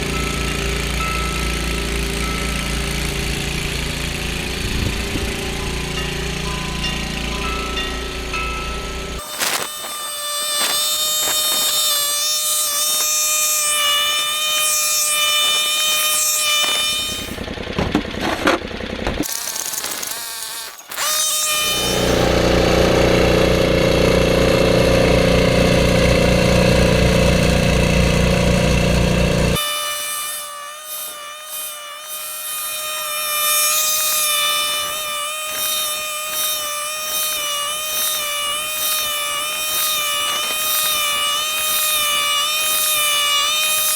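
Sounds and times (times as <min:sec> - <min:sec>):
snowblower engine running: 0:00.0 - 0:13.4, 0:15.6 - 0:29.6, 0:30.8 - 0:43.9.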